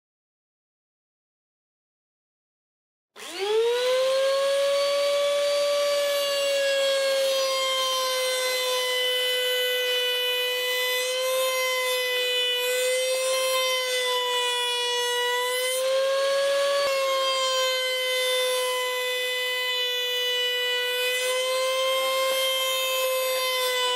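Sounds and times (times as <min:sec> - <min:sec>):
router whining: 0:03.2 - 0:23.9.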